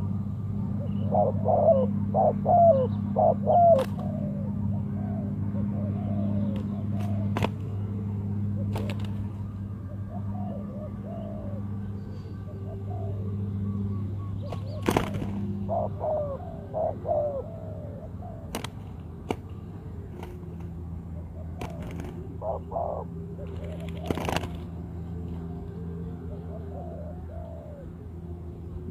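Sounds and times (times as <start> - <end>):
doves cooing: 0.0 - 28.9
steady low hum: 0.0 - 28.9.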